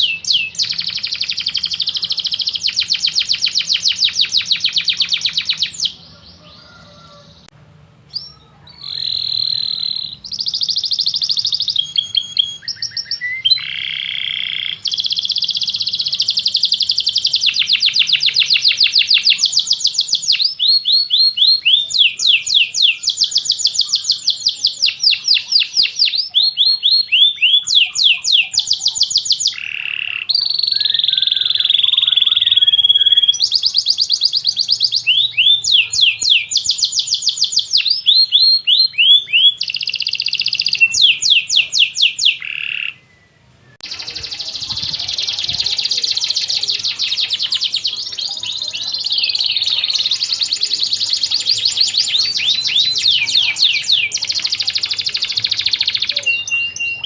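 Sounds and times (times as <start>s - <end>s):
canary singing trills: 0.0s - 7.5s, 8.1s - 57.0s.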